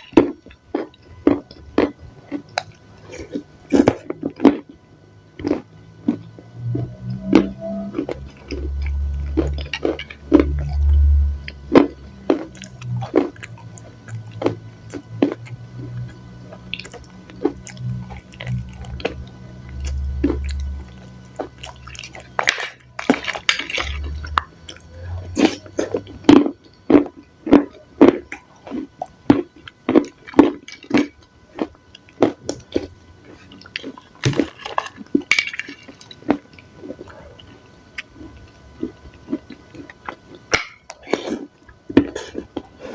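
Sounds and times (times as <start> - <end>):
chewing with crunches: 0.0 - 42.9.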